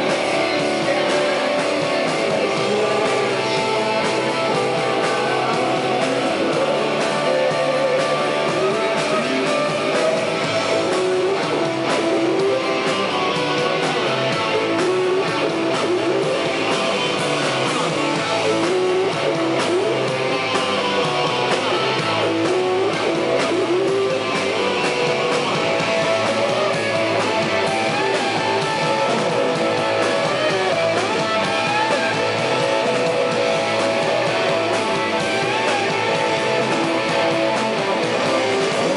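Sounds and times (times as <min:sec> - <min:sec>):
drums: 0:00.0 - 0:38.9
strummed electric guitar: 0:00.0 - 0:38.9.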